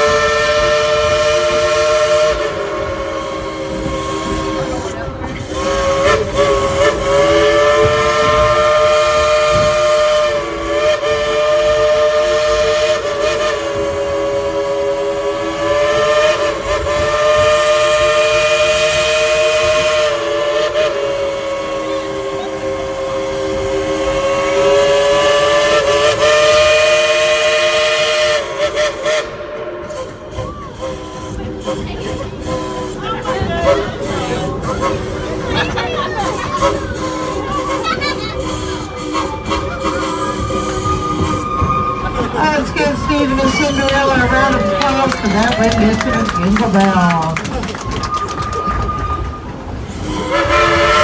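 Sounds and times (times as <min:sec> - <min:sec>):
steam locomotive whistle: 0:00.0 - 0:47.2, 0:47.8 - 0:51.0.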